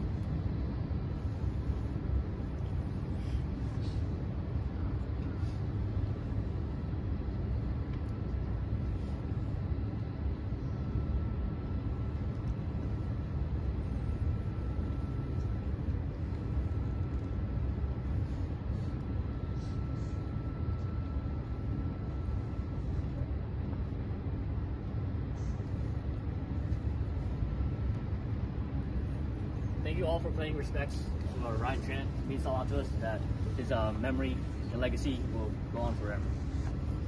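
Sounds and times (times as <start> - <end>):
city background rumble: 0.0 - 37.0
faint high whine: 0.0 - 37.0.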